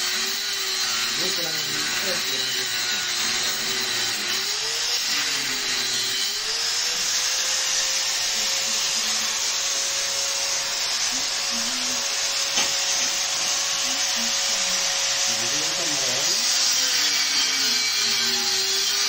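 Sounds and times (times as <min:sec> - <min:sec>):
small motor whining with hiss: 0:00.0 - 0:19.0.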